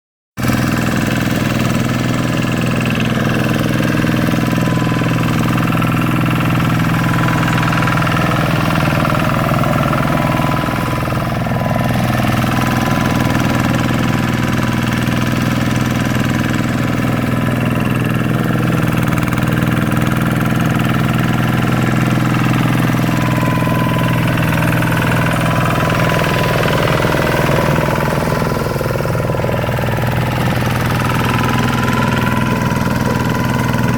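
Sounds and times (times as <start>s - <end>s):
diesel engine running steadily: 0.4s - 33.9s.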